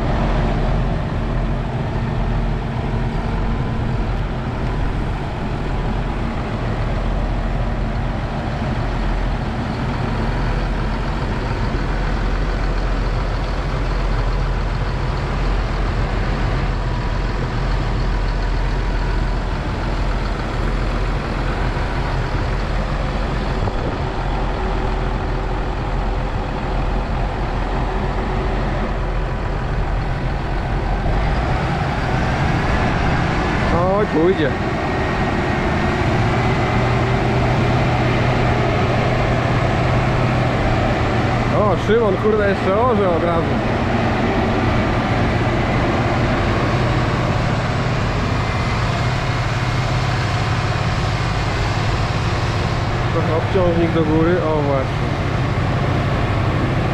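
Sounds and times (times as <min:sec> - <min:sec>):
heavy vehicle engine running: 0:00.0 - 0:56.9.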